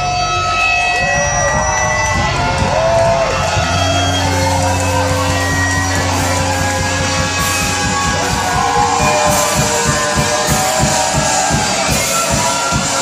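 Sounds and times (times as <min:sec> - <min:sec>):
live rock band playing: 0:00.1 - 0:13.0
fast drum hits: 0:01.1 - 0:13.0.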